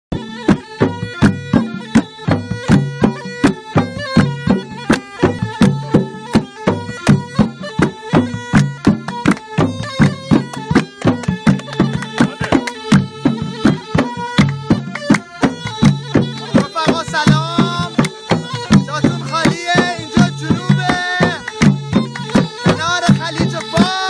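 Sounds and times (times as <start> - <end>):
bagpipe drone and melody: 0.1 - 24.0
barrel drums beating: 0.1 - 24.0.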